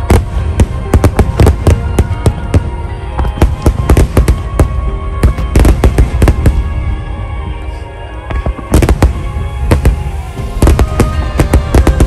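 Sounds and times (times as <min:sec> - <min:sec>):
fireworks bursting bangs: 0:00.0 - 0:07.0, 0:08.3 - 0:12.0
music playing: 0:00.0 - 0:12.0.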